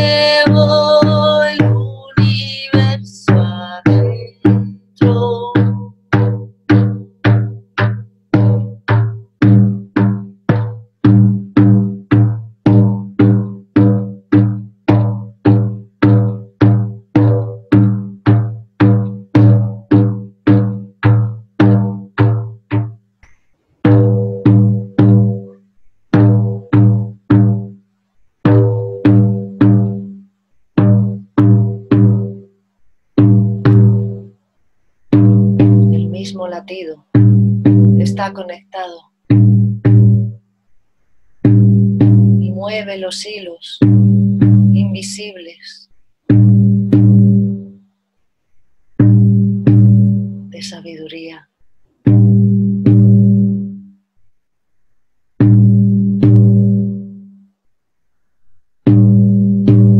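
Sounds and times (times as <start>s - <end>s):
frame drum beats: 0.0s - 27.8s, 28.4s - 34.4s, 35.0s - 40.4s, 41.1s - 45.6s, 46.2s - 47.8s, 48.8s - 53.9s, 55.4s - 57.2s, 58.8s - 59.9s.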